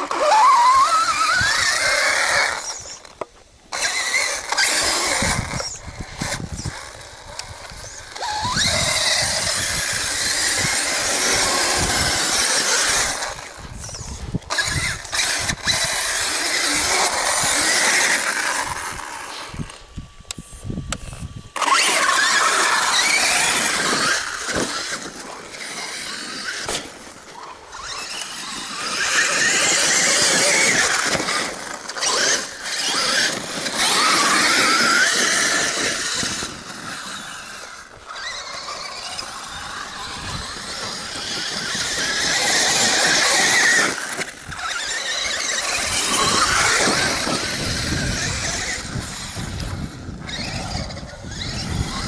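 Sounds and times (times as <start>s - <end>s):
rc truck motor whining: 0.0s - 52.0s.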